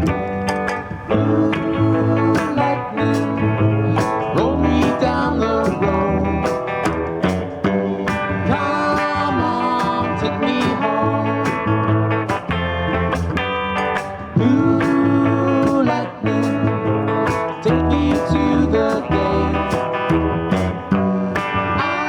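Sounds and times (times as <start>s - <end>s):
blues band playing: 0.0s - 22.0s.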